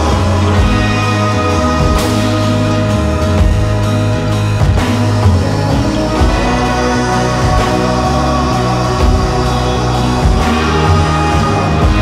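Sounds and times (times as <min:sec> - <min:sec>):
band music: 0:00.0 - 0:12.0.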